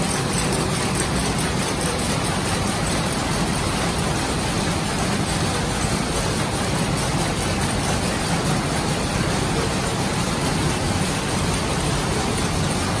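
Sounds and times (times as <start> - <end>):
power looms clattering: 0.0 - 13.0.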